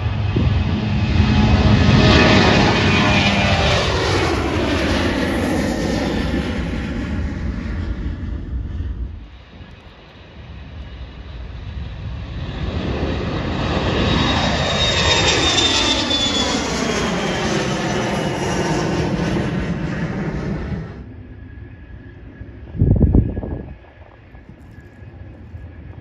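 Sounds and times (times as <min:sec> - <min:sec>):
high jet engine whine: 0:00.0 - 0:26.0
jet airplane taking off: 0:00.0 - 0:26.0.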